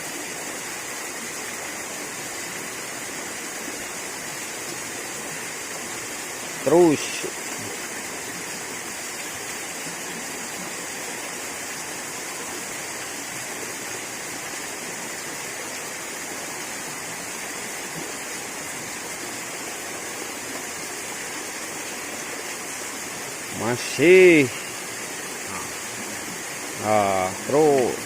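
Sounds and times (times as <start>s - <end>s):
flowing water rushing: 0.0s - 28.0s.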